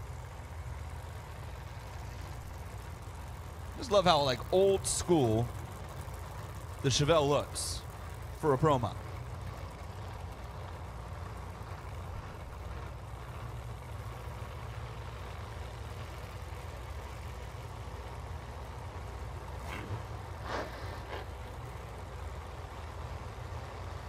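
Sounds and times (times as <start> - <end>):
race car engines idling: 0.0 - 24.0.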